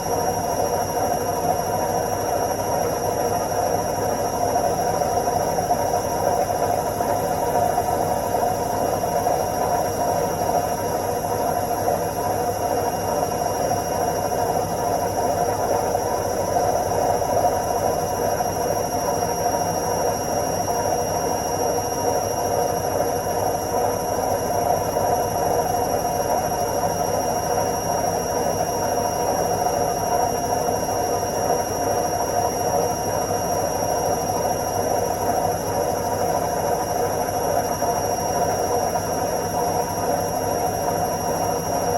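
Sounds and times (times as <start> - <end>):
washing machine spinning: 0.0 - 41.9.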